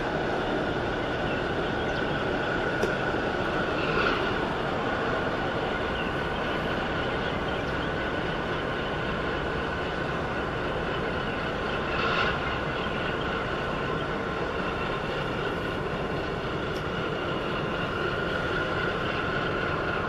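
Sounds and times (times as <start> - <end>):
ship machinery drone: 0.0 - 20.0.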